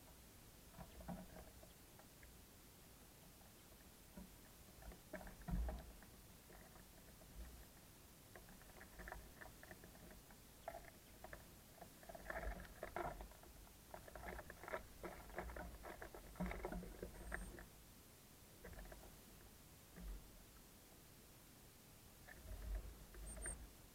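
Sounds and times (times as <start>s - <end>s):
birds pecking at feeder: 0.0s - 17.8s, 18.6s - 20.4s, 22.2s - 23.7s.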